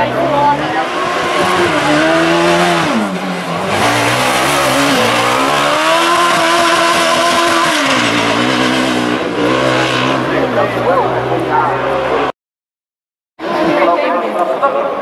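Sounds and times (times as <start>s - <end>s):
buggy engine revving: 0.0s - 12.3s.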